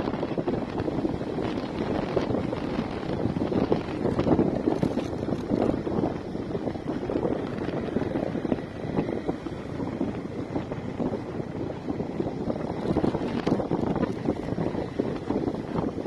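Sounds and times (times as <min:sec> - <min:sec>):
motorcycle riding noise: 0:00.0 - 0:16.0
wind buffeting microphone: 0:00.0 - 0:16.0.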